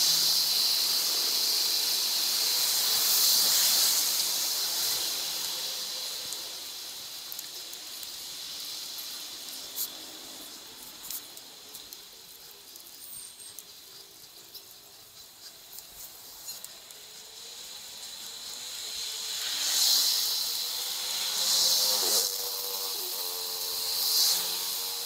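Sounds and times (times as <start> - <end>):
steady street hiss: 0.0 - 25.0.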